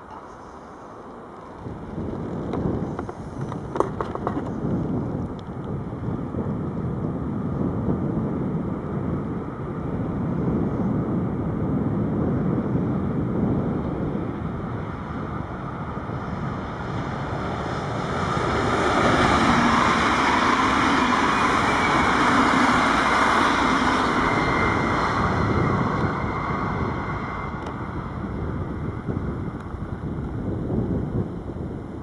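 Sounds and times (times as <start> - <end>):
train passing: 0.0 - 30.3
wind rumbling on microphone: 0.0 - 32.0.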